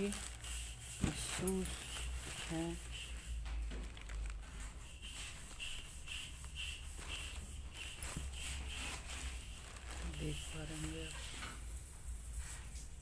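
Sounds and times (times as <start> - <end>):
sneaker handling in tissue paper: 0.0 - 13.0.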